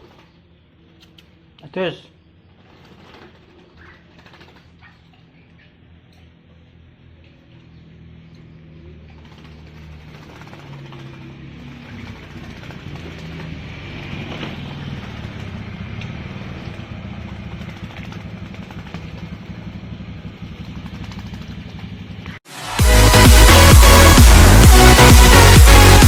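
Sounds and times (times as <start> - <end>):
engine running rough: 2.4 - 26.0.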